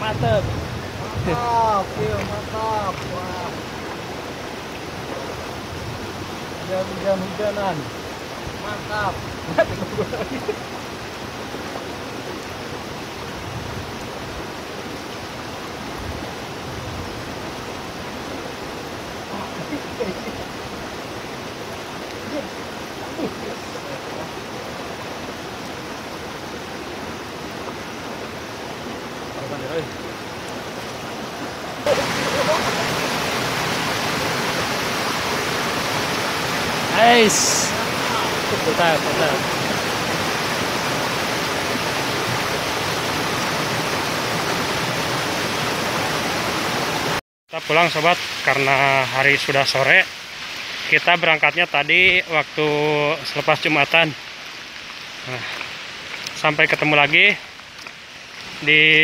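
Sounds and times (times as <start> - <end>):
rain: 0.0 - 59.0
running water: 0.0 - 59.0.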